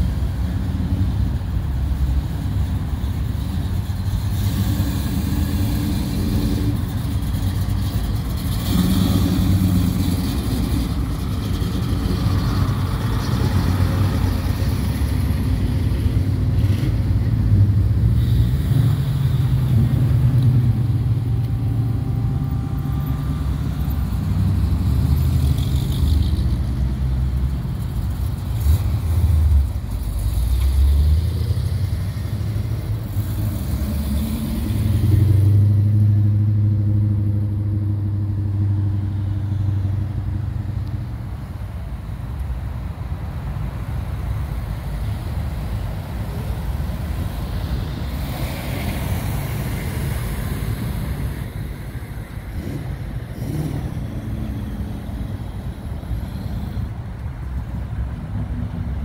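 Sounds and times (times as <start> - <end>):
cars driving past rumbling: 0.0 - 59.0.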